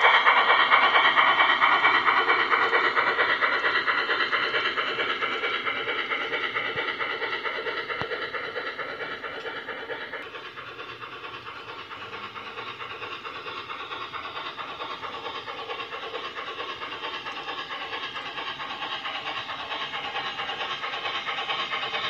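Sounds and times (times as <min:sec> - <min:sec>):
model steam locomotive rattling on track: 0:00.0 - 0:22.0.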